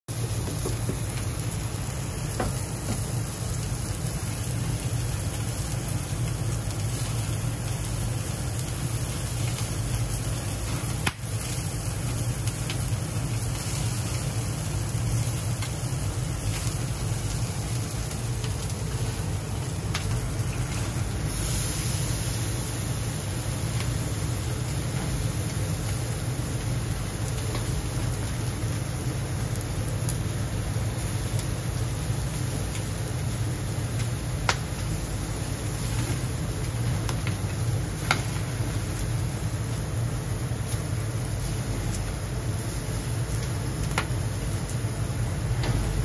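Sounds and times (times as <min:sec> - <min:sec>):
meat sizzling on grill: 0:00.1 - 0:46.0.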